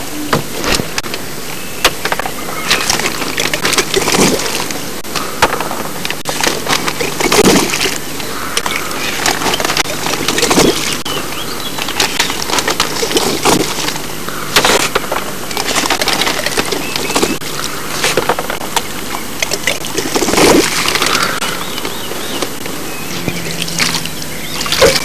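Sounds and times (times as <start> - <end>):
water sloshing against boat: 0.0 - 25.0.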